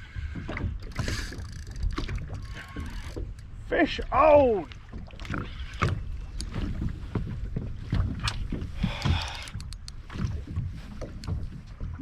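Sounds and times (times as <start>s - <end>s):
knocks and clatter in plastic boat: 0.0s - 12.0s
low wind rumble: 0.0s - 12.0s.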